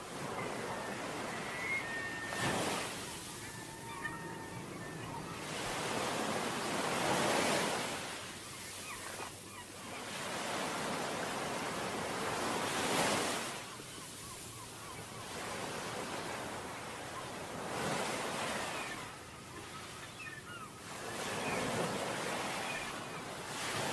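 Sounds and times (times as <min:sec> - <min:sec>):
ocean waves breaking on beach: 0:00.0 - 0:23.9.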